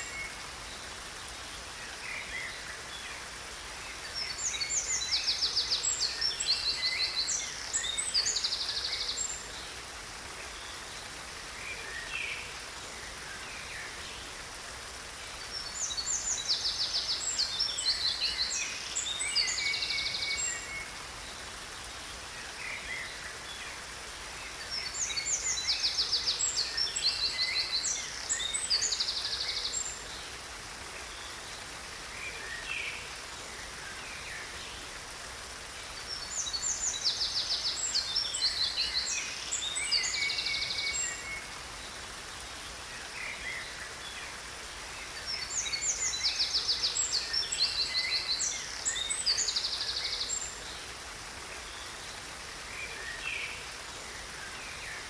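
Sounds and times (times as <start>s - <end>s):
waterfall hiss: 0.0s - 55.0s.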